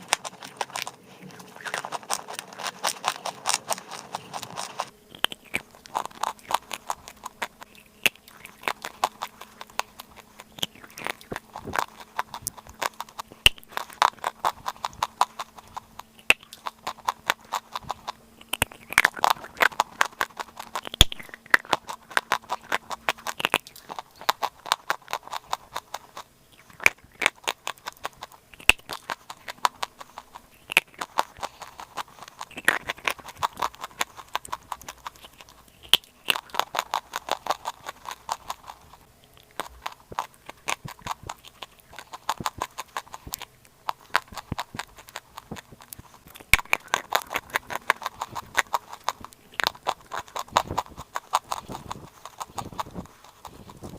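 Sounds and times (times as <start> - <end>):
chalk clay crunching and chewing: 0.0 - 53.9.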